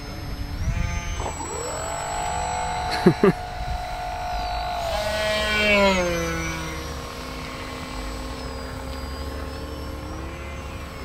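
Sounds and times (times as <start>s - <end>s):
model plane motor whining: 0.2s - 11.0s.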